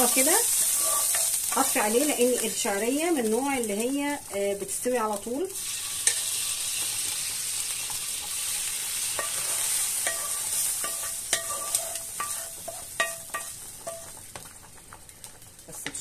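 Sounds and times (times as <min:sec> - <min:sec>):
hot oil sizzling: 0:00.0 - 0:16.0.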